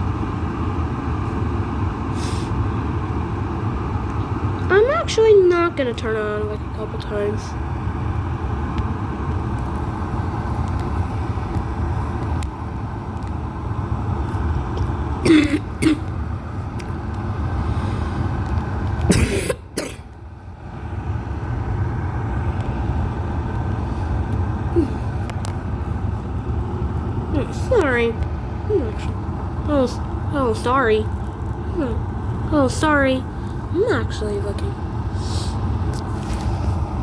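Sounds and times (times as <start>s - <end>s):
electric kettle rumbling: 0.0s - 37.0s.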